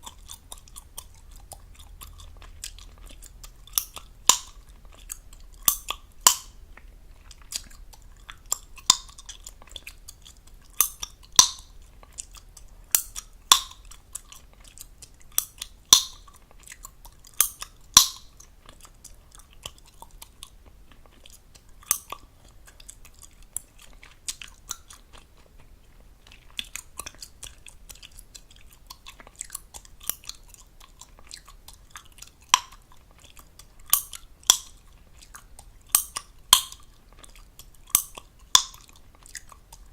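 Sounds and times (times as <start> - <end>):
gum popping: 0.0 - 39.9
wet gum chewing: 0.0 - 39.9.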